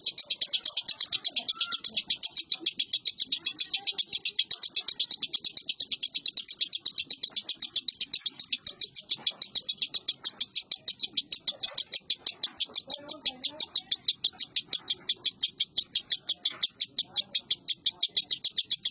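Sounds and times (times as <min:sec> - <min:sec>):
lovebird chattering: 0:00.0 - 0:18.9.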